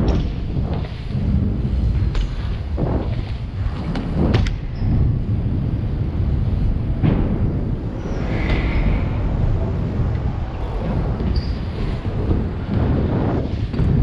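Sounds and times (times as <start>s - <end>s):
bike tyres rolling: 0.0s - 14.0s.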